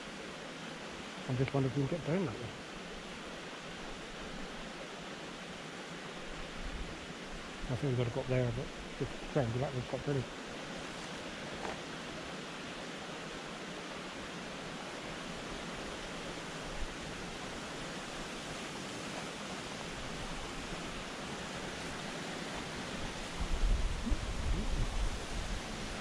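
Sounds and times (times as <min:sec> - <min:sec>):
brook running over stones: 0:01.1 - 0:26.0.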